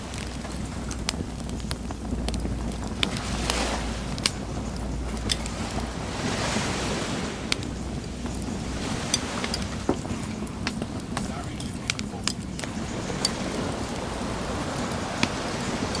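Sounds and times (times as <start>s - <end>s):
bonfire crackling: 0.0s - 16.0s
low steady rumble: 0.0s - 16.0s
sea waves washing ashore: 0.0s - 16.0s.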